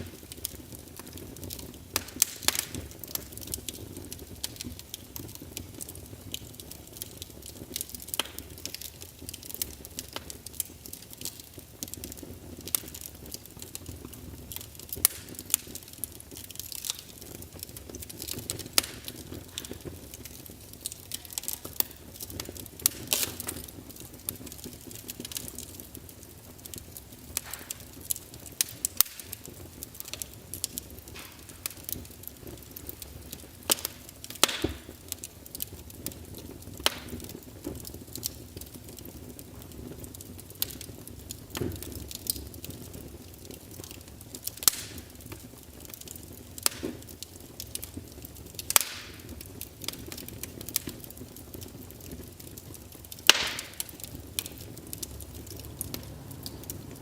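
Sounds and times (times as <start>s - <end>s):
fire pops and snaps: 0.0s - 57.0s
low steady hiss: 0.0s - 57.0s
wood fire crackling: 0.0s - 57.0s.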